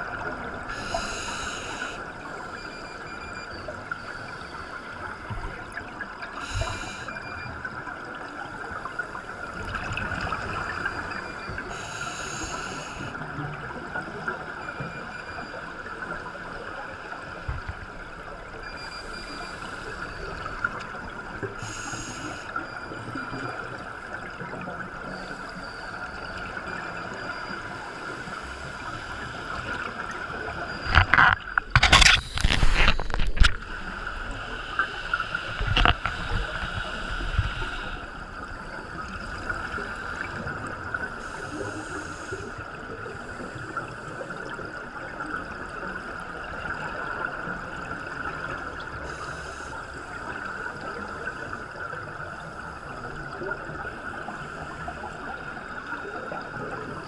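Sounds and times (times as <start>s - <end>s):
scuba exhaust bubbles: 0.0s - 57.0s
muffled underwater hiss: 0.5s - 2.8s, 3.9s - 7.4s, 8.2s - 13.3s, 18.8s - 30.2s, 32.1s - 57.0s.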